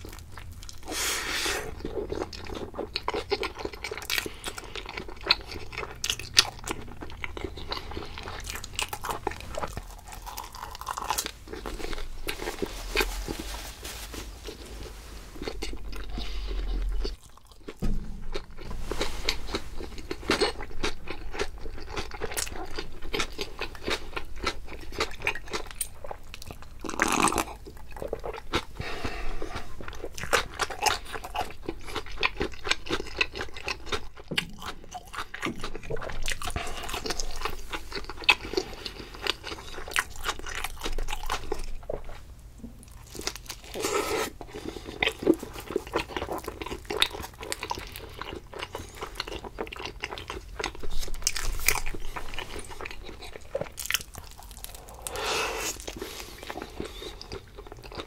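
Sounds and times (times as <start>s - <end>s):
person chewing crunchy food: 0.0s - 13.6s, 14.4s - 58.0s.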